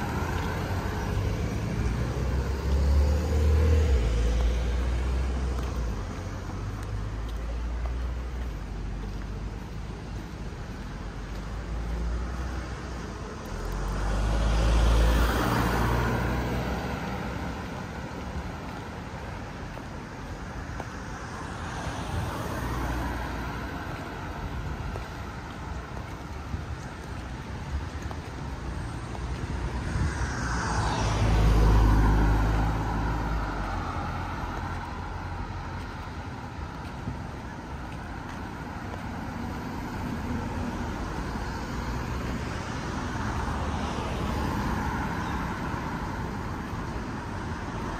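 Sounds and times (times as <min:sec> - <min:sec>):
cars driving past: 0:00.0 - 0:47.9
steady traffic noise: 0:00.0 - 0:47.9.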